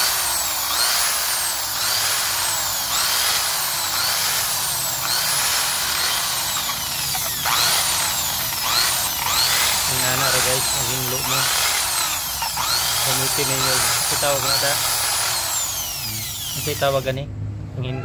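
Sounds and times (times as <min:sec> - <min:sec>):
rotary tool motor whine: 0:00.0 - 0:17.2.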